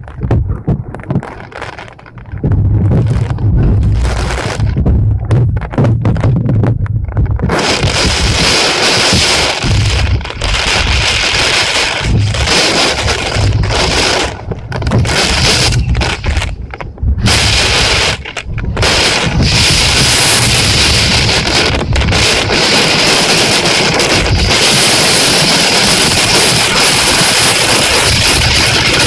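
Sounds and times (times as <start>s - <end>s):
heavy rain pouring: 0.0s - 29.0s
wind buffeting microphone: 0.0s - 29.0s.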